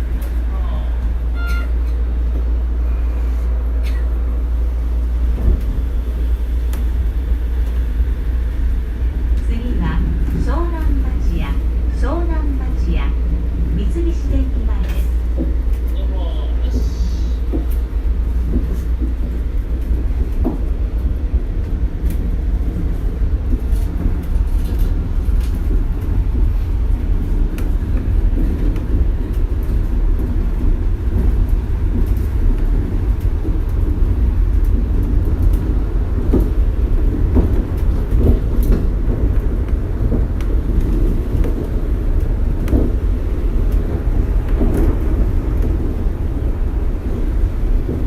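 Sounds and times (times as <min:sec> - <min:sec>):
monorail car deep rumble: 0:00.0 - 0:48.0.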